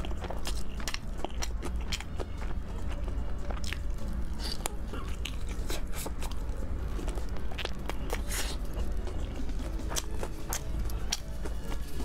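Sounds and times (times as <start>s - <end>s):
chewing fried chicken: 0.0s - 12.0s.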